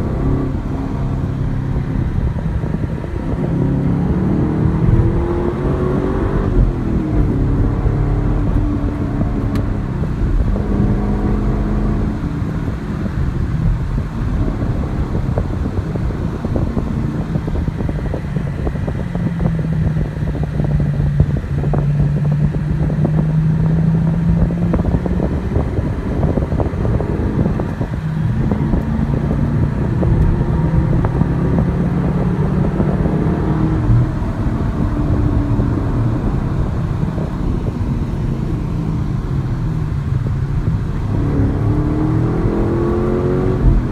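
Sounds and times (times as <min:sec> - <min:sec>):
car engine running from inside: 0:00.0 - 0:43.9.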